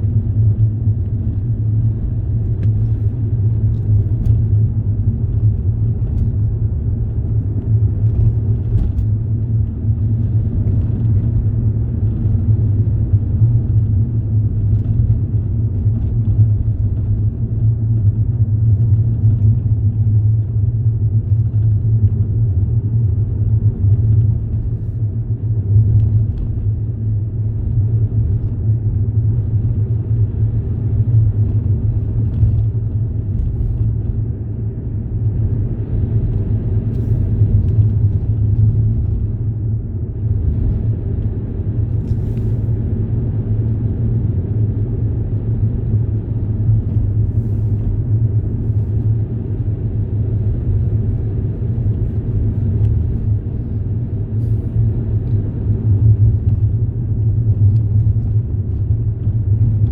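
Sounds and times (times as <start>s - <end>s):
moving vehicle rumble: 0.0s - 59.9s.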